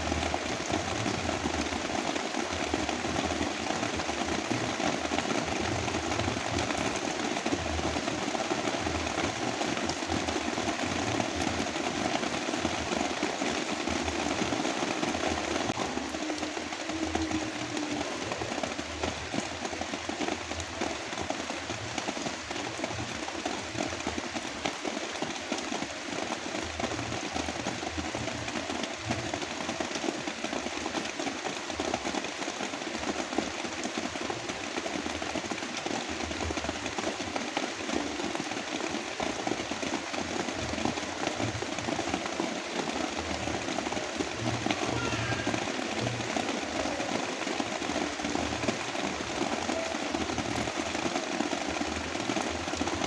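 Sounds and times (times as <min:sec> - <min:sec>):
continuous hiss: 0:00.0 - 0:53.0
heavy rain patter: 0:00.0 - 0:53.0.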